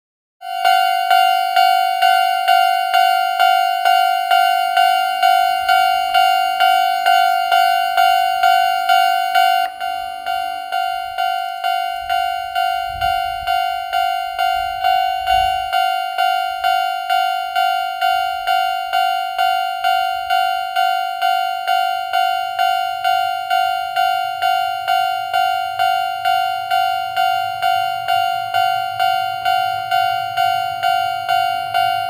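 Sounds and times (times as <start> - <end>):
level crossing warning bell ringing: 0.4 - 32.0.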